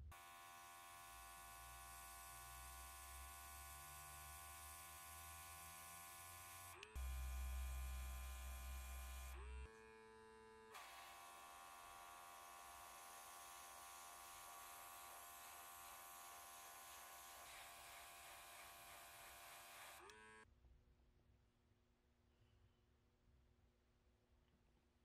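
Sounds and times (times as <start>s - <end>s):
airbrush compressor humming: 0.0s - 20.4s.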